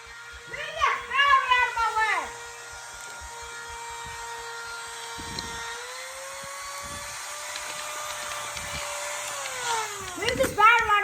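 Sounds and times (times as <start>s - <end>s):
power drill motor whining: 0.0s - 11.0s.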